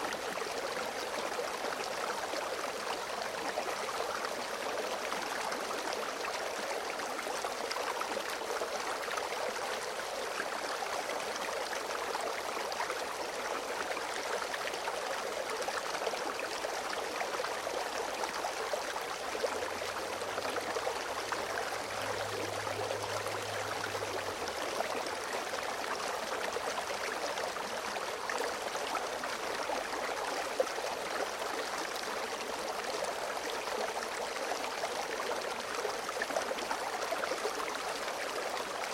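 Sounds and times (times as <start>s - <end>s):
small stream flowing: 0.0s - 38.9s.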